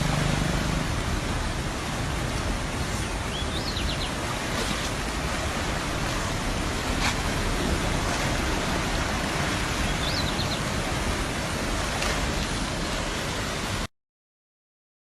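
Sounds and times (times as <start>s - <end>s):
floodwater rushing: 0.0s - 13.9s.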